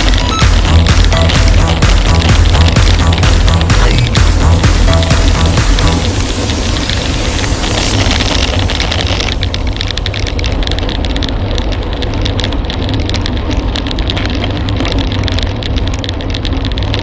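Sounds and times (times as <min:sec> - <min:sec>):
bicycle tyre noise: 0:00.0 - 0:17.0
wind buffeting: 0:00.0 - 0:17.0.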